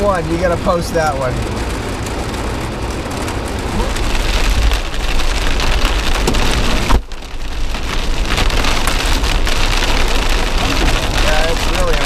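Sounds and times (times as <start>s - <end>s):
low rumble: 0.0s - 12.0s
rain on vehicle roof: 0.0s - 12.0s.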